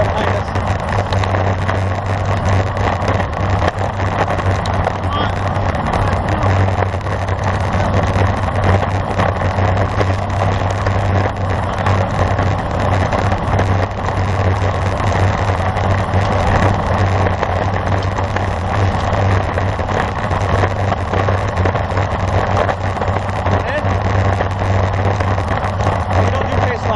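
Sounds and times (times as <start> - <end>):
bicycle road noise: 0.0 - 26.9
low hum: 0.0 - 26.9
wind rush: 0.0 - 26.9.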